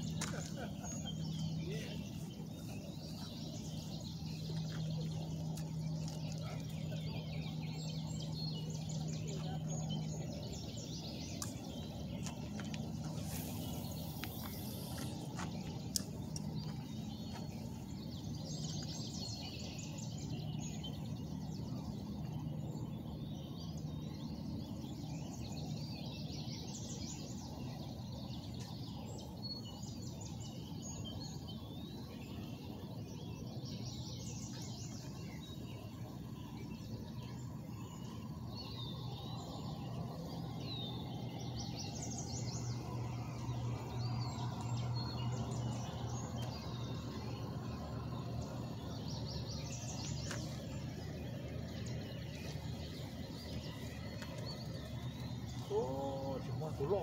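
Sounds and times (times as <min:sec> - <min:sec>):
low hum: 0:00.0 - 0:30.1, 0:33.2 - 0:57.0
small birds chirping: 0:00.0 - 0:57.0.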